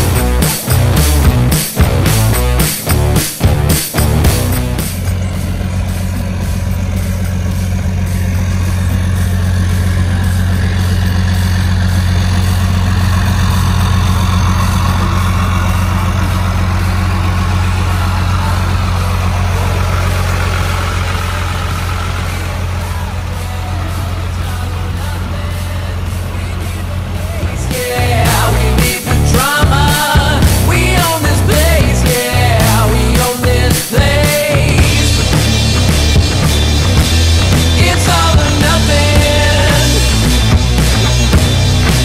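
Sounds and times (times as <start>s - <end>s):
vehicle engine idling: 0.0s - 42.0s.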